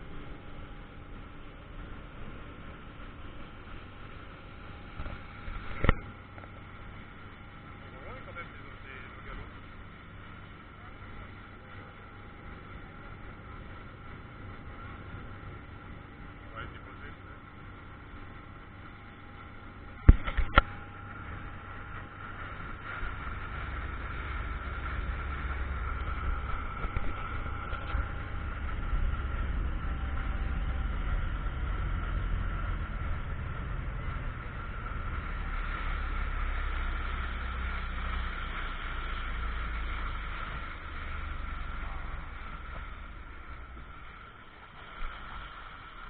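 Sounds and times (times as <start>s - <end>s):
motorboat engine whine: 0.0s - 46.0s
rumble of wind and water: 0.0s - 46.0s.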